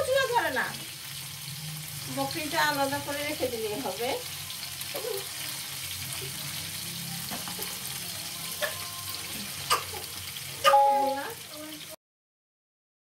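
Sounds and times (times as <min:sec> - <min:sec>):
skewers sizzling in oil: 0:00.0 - 0:12.0.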